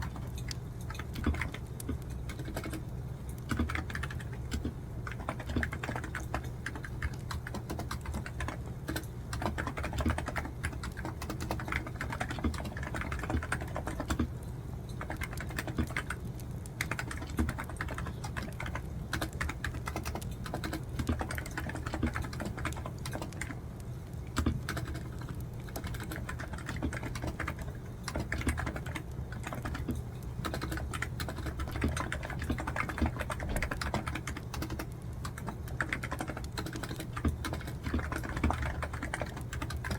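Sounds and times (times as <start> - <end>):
typing on computer keyboard: 0.0 - 23.6, 24.2 - 39.9
steady low hum: 0.0 - 39.9.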